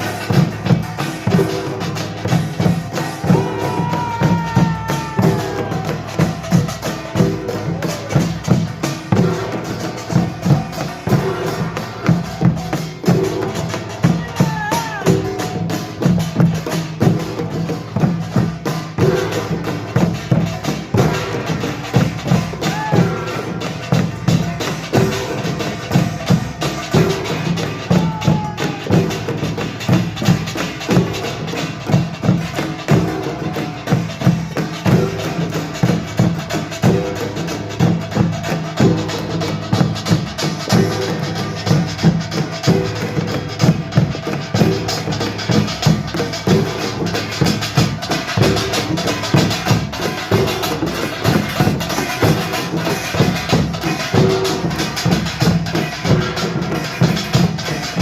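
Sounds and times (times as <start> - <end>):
percussion band on gongs and drums: 0.0 - 58.0.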